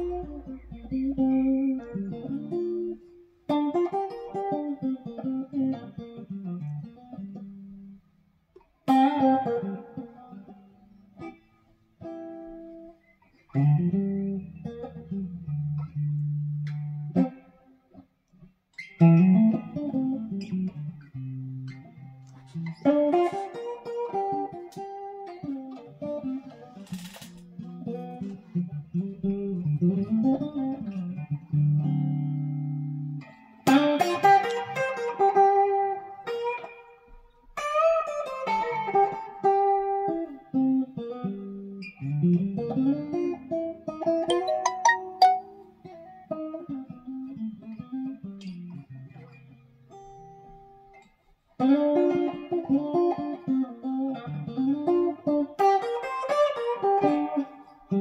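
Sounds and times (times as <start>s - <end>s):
electric guitar blues lead: 0.0s - 8.0s, 8.6s - 58.0s.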